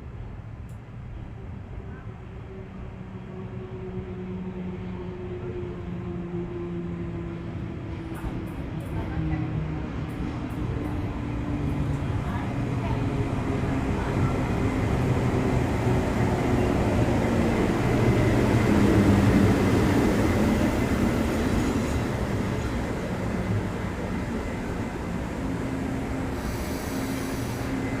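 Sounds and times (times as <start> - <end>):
train pulling into station: 0.0 - 28.0.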